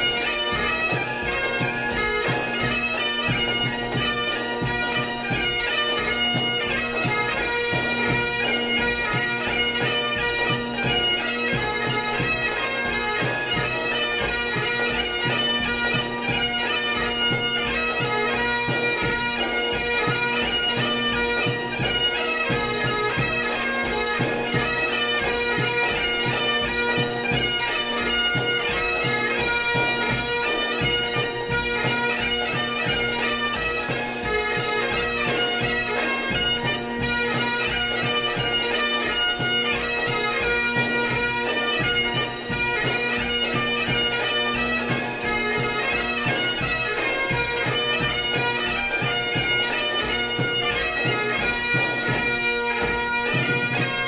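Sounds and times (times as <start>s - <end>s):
bagpipes playing march: 0.0s - 54.0s.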